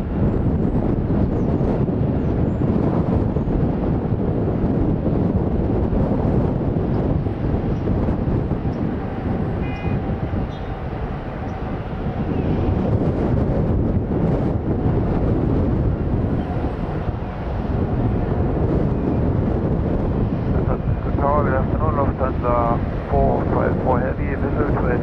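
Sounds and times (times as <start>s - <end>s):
wind on microphone: 0.0s - 25.0s
jet engines roaring: 2.8s - 25.0s.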